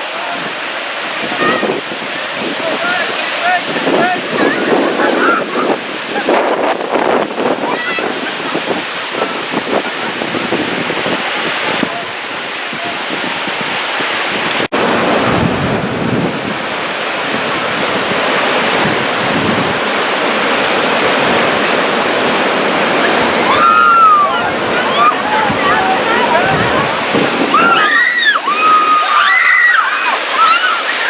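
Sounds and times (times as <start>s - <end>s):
rushing splashing river water: 0.0s - 31.0s
wind buffeting microphone: 0.4s - 31.0s.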